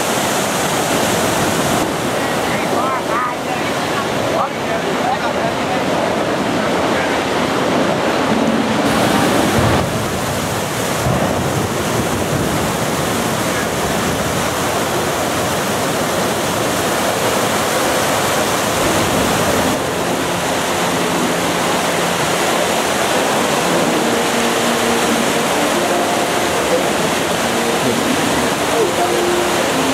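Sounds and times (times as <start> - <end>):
fountain water rushing: 0.0 - 29.9.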